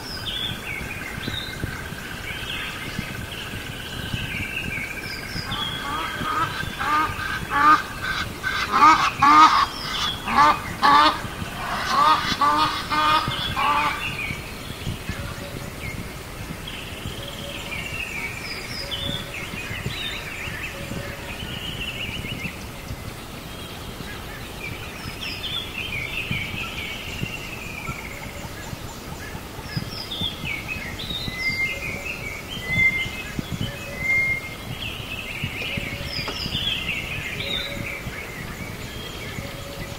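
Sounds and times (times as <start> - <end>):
birds calling: 0.0 - 39.9
birds chirping and whistling: 0.0 - 39.9.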